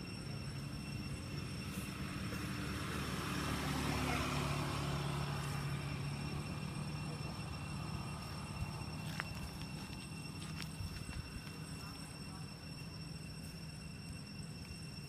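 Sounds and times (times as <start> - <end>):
vehicle engine humming past: 0.0 - 15.0.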